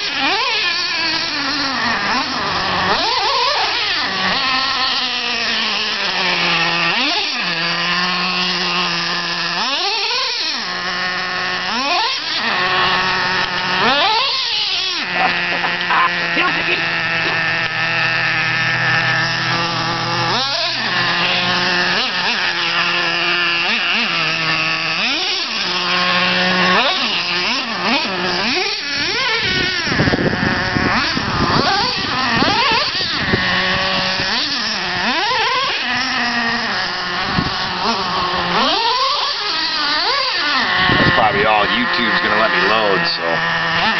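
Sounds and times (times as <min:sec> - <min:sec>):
rc truck nitro engine revving: 0:00.0 - 0:43.9.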